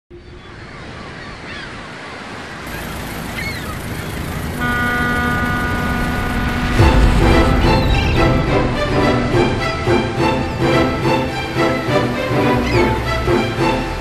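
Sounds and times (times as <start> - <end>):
rushing noise: 2.6 - 14.0
ship's horn: 2.7 - 14.0.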